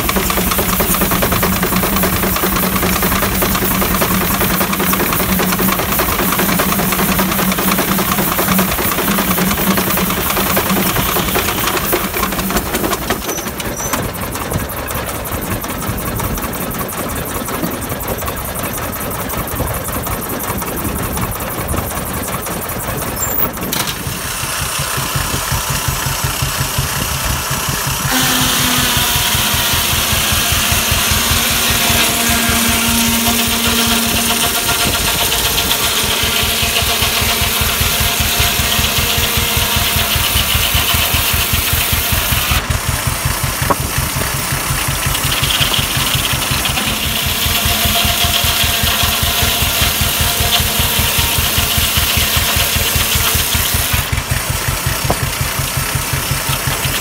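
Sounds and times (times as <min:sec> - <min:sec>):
sawmill hiss: 0:00.0 - 0:57.0
steam engine exhaust beating: 0:00.0 - 0:57.0.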